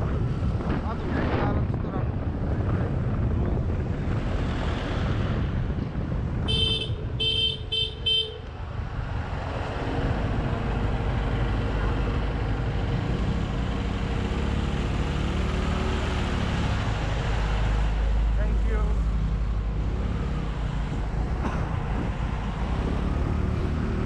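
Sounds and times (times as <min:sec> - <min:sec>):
scooter engine and road noise: 0:00.0 - 0:24.0.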